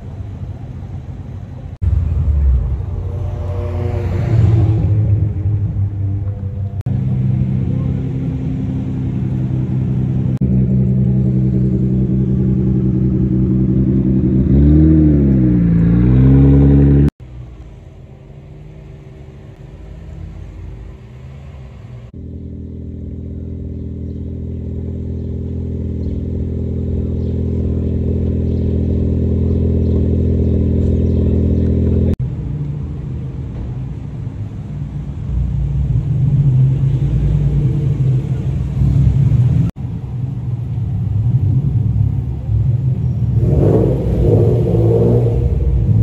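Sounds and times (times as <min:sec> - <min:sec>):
car engines rumbling in parking garage: 0:00.0 - 0:46.0
car exhaust droning: 0:01.8 - 0:32.3, 0:33.9 - 0:46.0.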